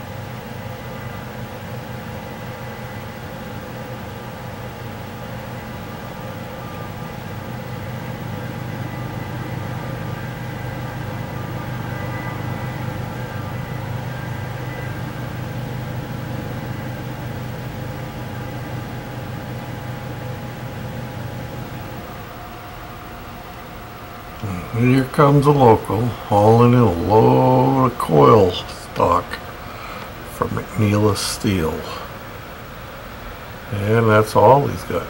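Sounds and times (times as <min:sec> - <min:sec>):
diesel locomotive engine drone: 0:00.0 - 0:35.0
faint whine: 0:00.0 - 0:35.0.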